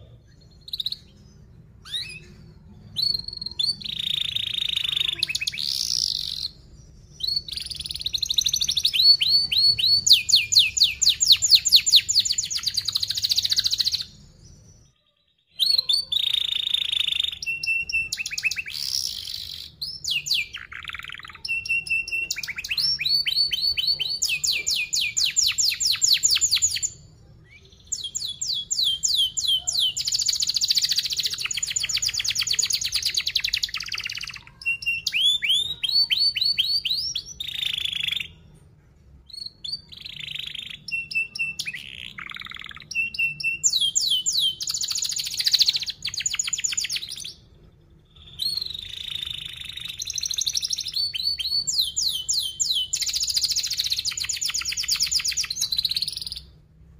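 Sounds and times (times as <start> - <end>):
canary singing trills: 0.0 - 56.6.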